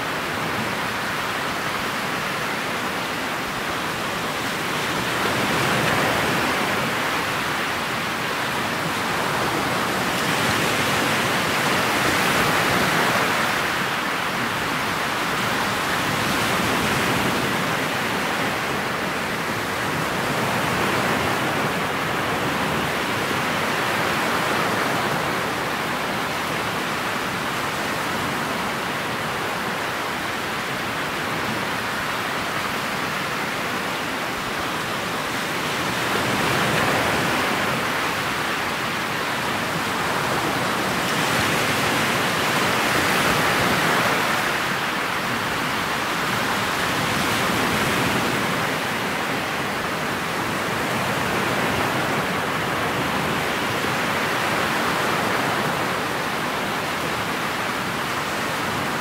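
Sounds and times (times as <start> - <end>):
water and wind rushing past boat: 0.0 - 59.0.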